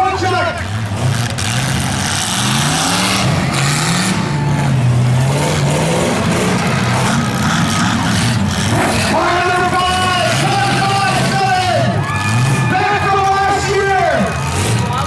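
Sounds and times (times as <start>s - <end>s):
car engine revving loudly: 0.0s - 15.0s.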